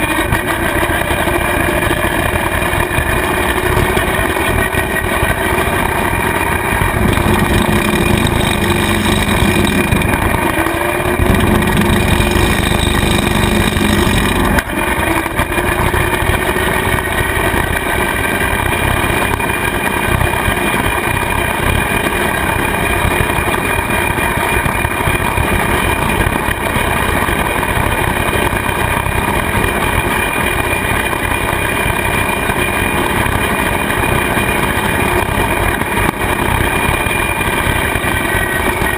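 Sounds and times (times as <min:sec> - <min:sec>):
rotary cutter mowing grass: 0:00.0 - 0:38.9
tractor diesel engine: 0:00.0 - 0:38.9.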